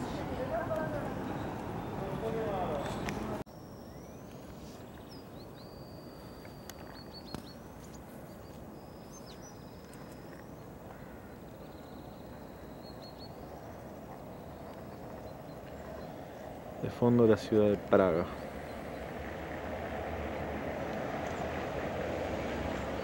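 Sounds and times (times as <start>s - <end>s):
high bird calls: 0.0s - 23.0s.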